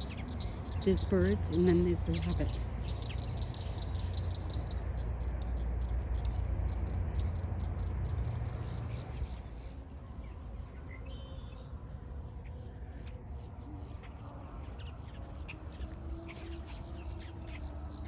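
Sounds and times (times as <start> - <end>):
small birds chirping: 0.0 - 11.8, 12.4 - 18.0.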